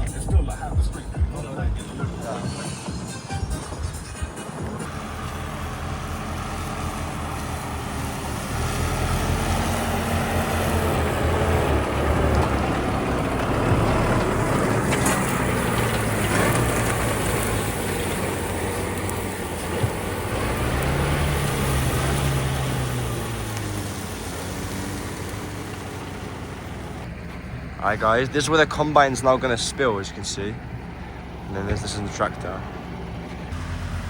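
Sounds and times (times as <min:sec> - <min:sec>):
combine harvester running: 0:00.0 - 0:34.0.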